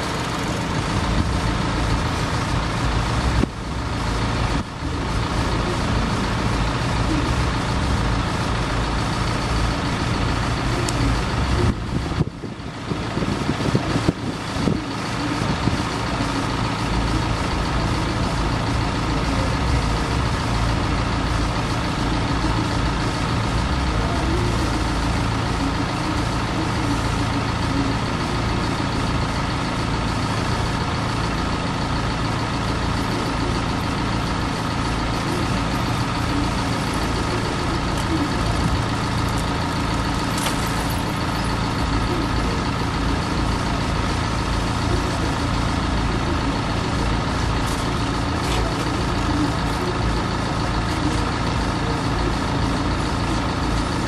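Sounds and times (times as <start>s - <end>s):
vehicle engines idling: 0.0s - 54.0s.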